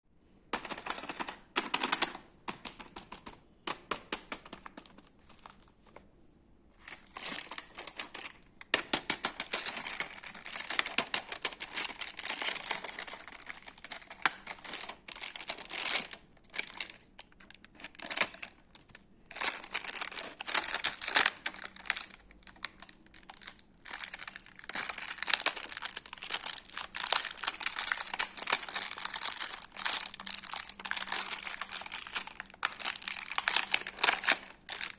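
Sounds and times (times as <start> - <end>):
candy wrappers crinkling: 0.5 - 6.0, 6.8 - 34.9.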